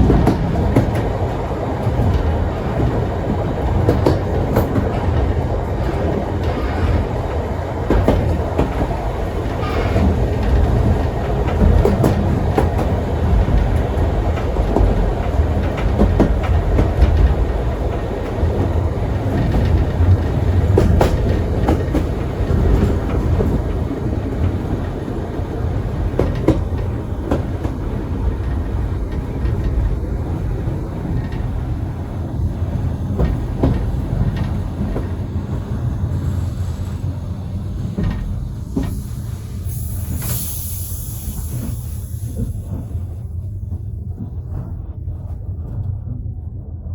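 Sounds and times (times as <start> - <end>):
wheels clicking over rail joints: 0.0 - 40.4
train carriages rumbling on track: 0.0 - 46.9.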